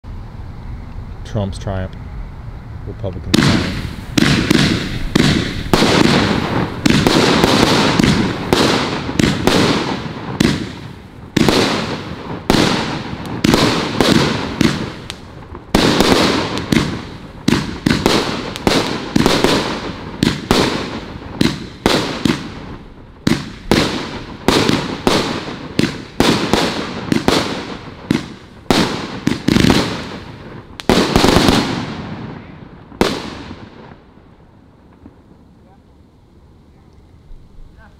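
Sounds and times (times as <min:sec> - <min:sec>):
firework shells banging: 0:03.1 - 0:33.9.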